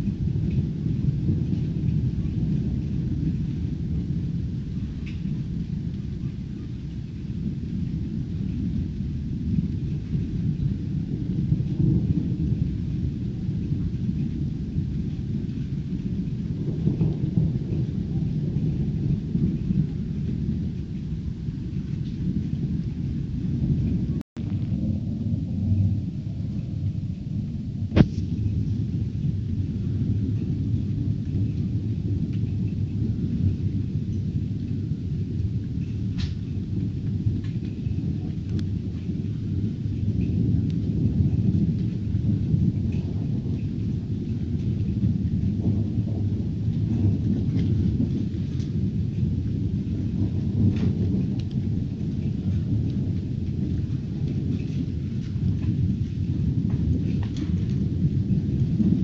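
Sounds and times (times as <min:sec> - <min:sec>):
faint rain: 0:00.0 - 0:59.0
thunder rumbling: 0:00.0 - 0:59.0.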